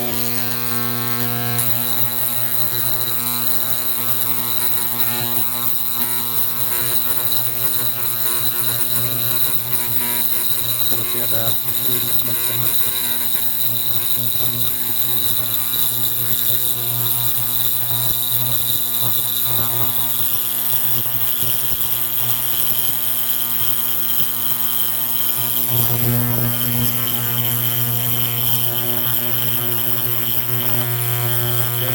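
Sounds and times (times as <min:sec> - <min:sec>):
electrical buzzing hum: 0:00.0 - 0:31.9.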